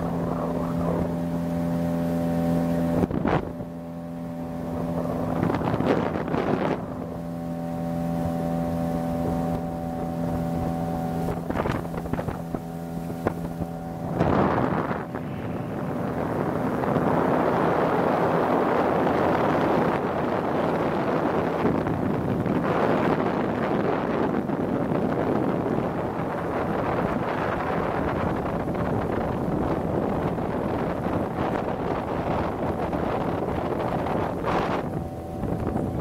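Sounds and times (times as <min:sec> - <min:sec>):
motorboat engine running: 0:00.0 - 0:36.0
water rushing along hull: 0:00.0 - 0:36.0
wind on microphone: 0:00.0 - 0:36.0.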